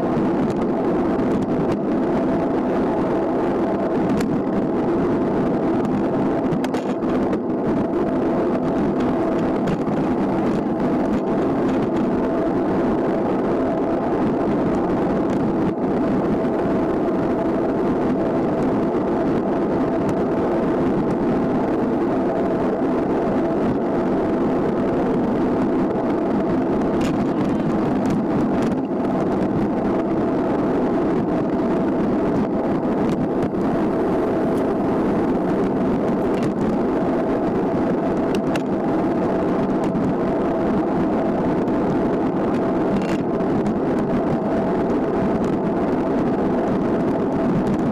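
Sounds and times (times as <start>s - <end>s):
bicycle tyres on asphalt: 0.0s - 47.9s
constant hum: 0.0s - 47.9s
wind rushing: 0.0s - 47.9s.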